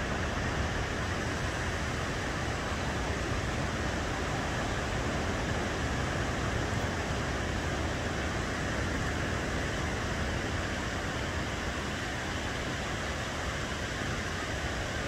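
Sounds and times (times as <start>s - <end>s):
surf washing up beach: 0.0s - 15.0s.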